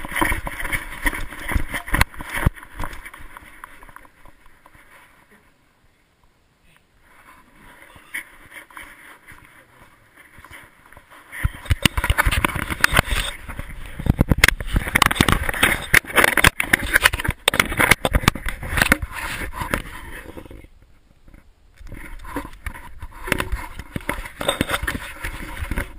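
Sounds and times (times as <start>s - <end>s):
camera rubbing and scraping: 0.0s - 5.4s, 7.0s - 25.9s.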